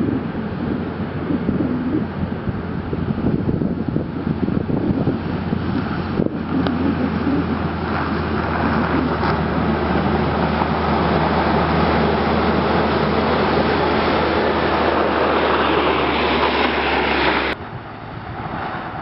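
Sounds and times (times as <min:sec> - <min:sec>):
diesel engine humming: 0:00.0 - 0:19.0
plow blade scraping snow: 0:00.0 - 0:19.0
wind buffeting microphone: 0:00.0 - 0:19.0.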